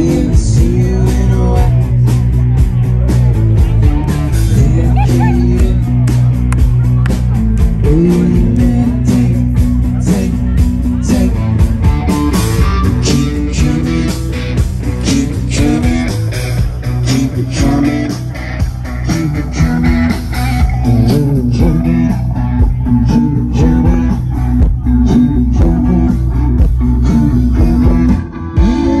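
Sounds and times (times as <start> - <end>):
bass guitar: 0.0 - 29.0
electric guitar: 0.0 - 29.0
steady drum beat: 0.0 - 29.0.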